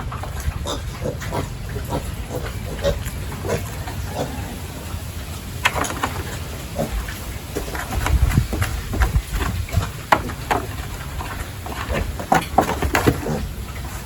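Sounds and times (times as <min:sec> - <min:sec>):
pigs grunting and squealing: 0:00.0 - 0:14.0.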